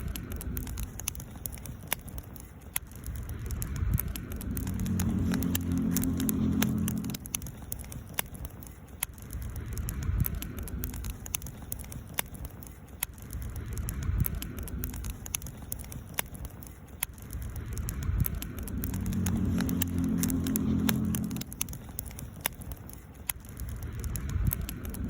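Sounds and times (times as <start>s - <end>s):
low rumble: 0.0s - 1.9s, 2.9s - 8.6s, 9.2s - 12.0s, 13.2s - 16.5s, 17.1s - 25.0s
campfire crackling: 0.0s - 25.0s
fire pops: 0.0s - 25.0s.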